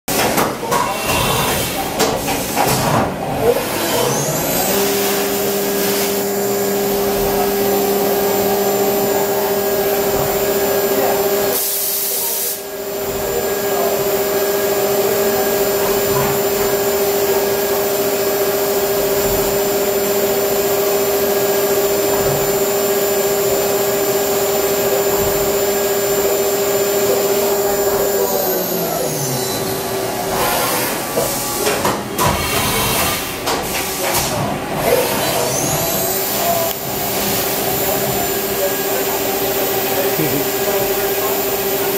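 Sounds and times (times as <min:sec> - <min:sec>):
milling machine spindle whine: 0:03.3 - 0:41.9.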